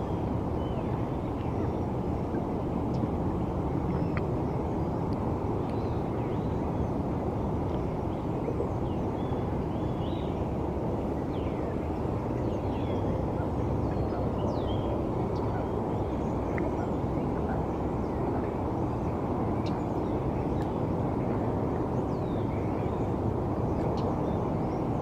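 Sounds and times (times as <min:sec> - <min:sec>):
distant city traffic rumble: 0:00.0 - 0:25.0.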